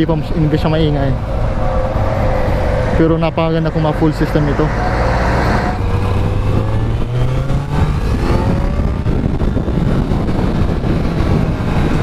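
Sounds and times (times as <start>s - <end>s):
motorcycle engine revving: 1.2s - 12.0s.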